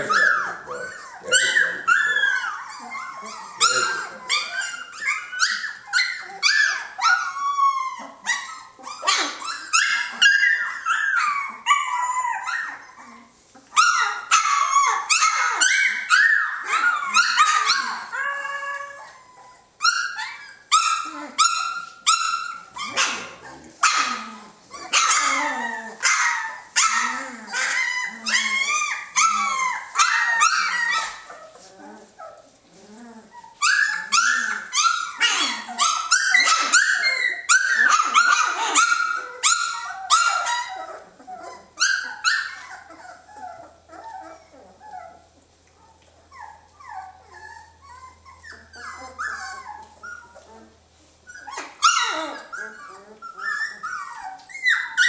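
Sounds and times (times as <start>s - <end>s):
puppies yelping and whining: 0.0s - 55.0s.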